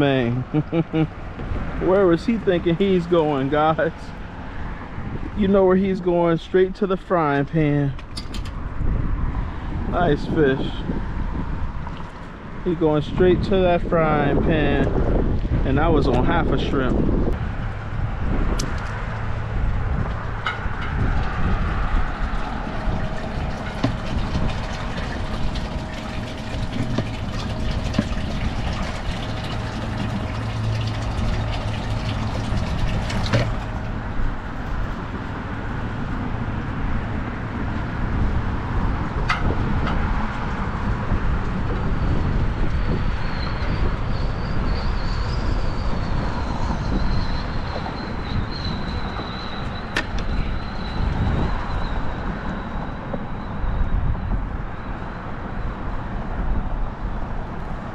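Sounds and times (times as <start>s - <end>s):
traffic rumble: 0.0s - 57.9s
wind on microphone: 0.4s - 6.4s, 7.6s - 57.9s.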